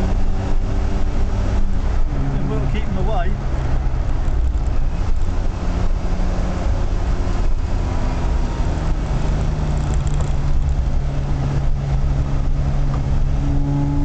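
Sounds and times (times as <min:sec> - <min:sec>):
car engine pulling hard: 0:00.0 - 0:14.0
tyre and road noise: 0:00.0 - 0:14.0.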